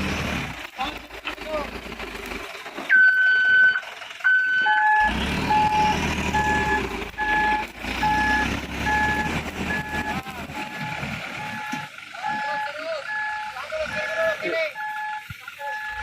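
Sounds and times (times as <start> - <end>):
diesel engine running low: 0.0 - 16.0
truck reversing alarm beeping: 2.9 - 16.0.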